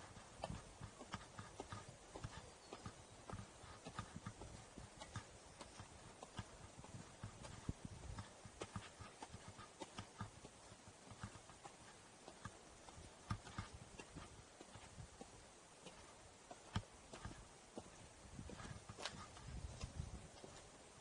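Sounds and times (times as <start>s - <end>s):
footsteps on forest trail: 0.0s - 21.0s
soft steady hiss: 0.0s - 21.0s.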